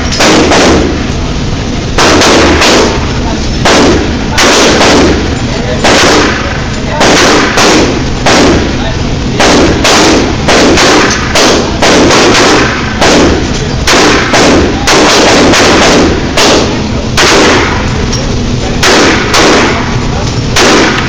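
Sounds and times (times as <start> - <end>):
pistol shots: 0.0 - 1.2, 1.8 - 18.2, 18.8 - 21.0.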